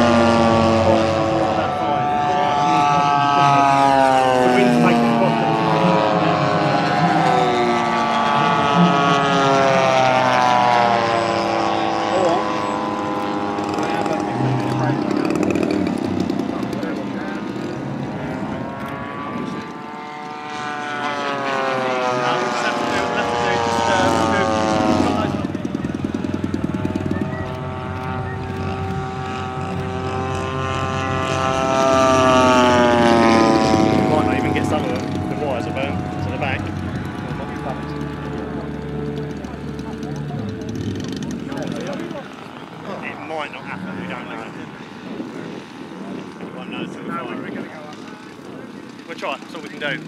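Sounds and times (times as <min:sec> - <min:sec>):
model plane propeller engines droning: 0:00.0 - 0:50.0.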